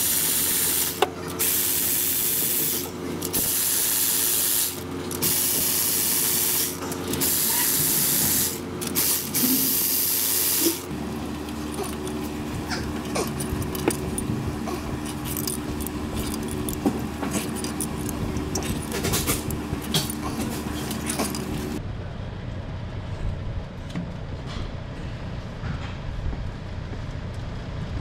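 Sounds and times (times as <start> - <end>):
steady low hum: 1.0 - 28.0.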